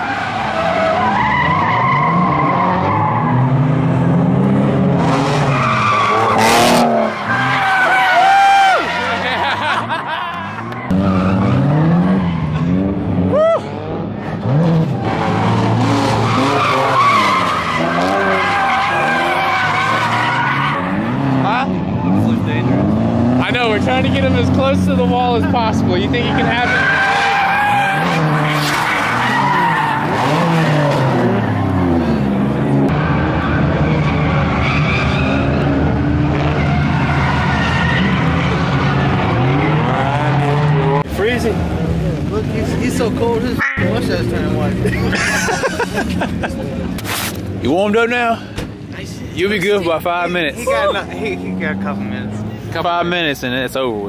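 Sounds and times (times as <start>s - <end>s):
tyres squealing and skidding: 0.0s - 41.6s, 42.4s - 54.0s
car engine revving: 0.0s - 53.8s.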